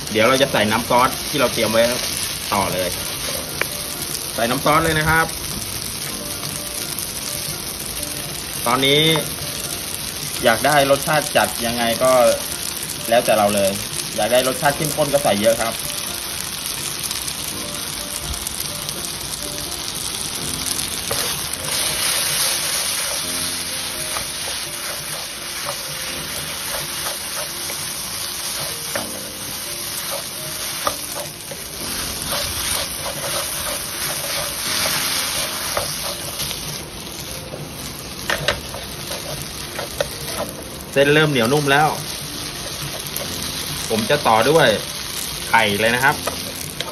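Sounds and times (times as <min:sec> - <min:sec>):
noodles sizzling in a wok: 0:00.0 - 0:46.9.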